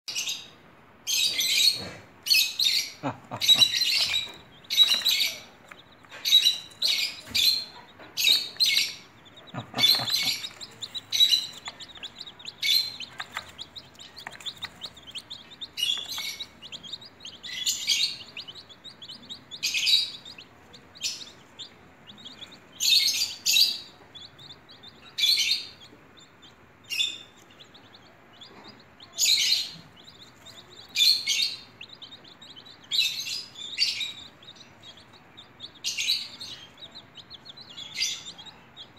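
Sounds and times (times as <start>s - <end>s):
baby chicks peeping: 0.1s - 38.9s.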